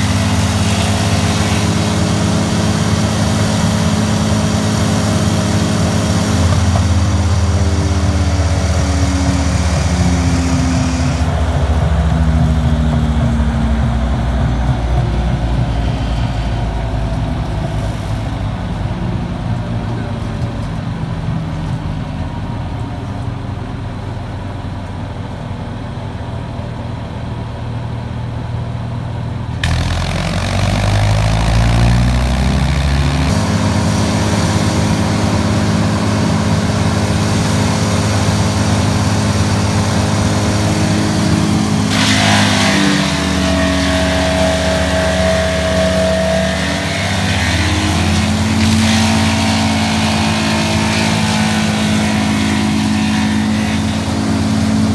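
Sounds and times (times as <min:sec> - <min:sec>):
wood chipper engine: 0:00.0 - 0:54.9.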